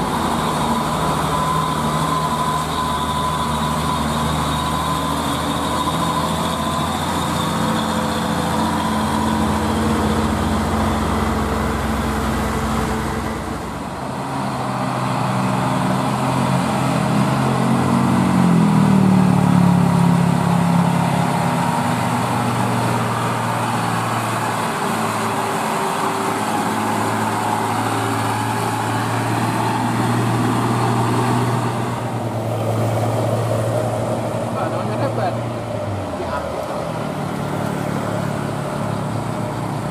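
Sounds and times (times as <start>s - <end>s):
diesel truck engine labouring: 0.0s - 39.9s.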